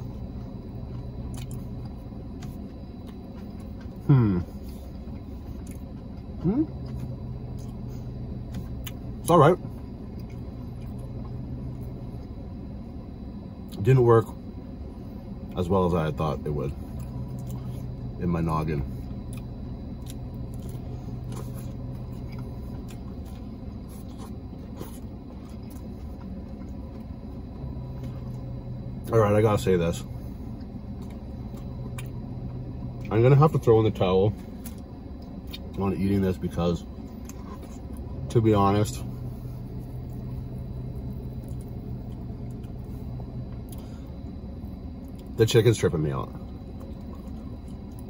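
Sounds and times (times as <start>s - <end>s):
man chewing food: 0.0s - 13.8s, 16.7s - 29.1s, 30.0s - 33.2s, 34.3s - 35.8s, 36.8s - 38.3s, 39.0s - 45.4s, 46.3s - 48.0s
low hum inside car: 0.0s - 48.0s.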